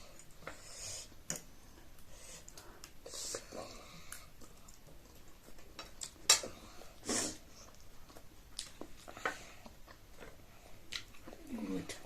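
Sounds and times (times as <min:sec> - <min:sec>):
scraping and eating noises: 0:00.0 - 0:12.0.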